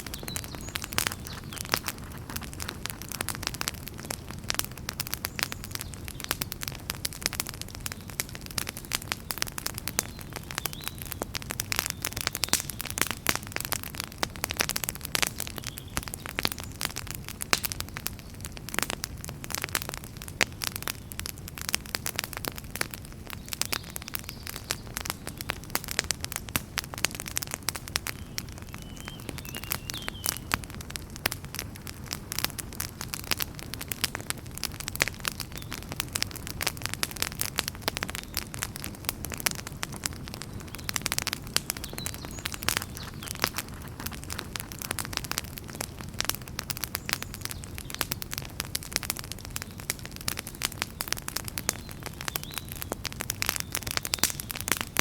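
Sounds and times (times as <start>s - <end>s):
low rumble of flame: 0.0s - 55.0s
wood fire crackling and popping: 0.0s - 55.0s.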